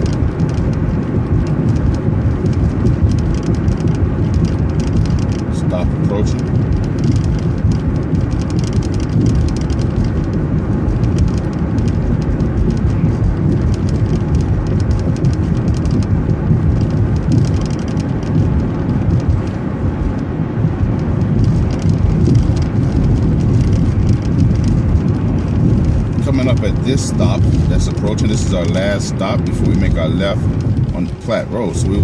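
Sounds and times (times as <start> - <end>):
bus engine and road rumble: 0.0 - 32.0
fast light rattling: 0.0 - 32.0.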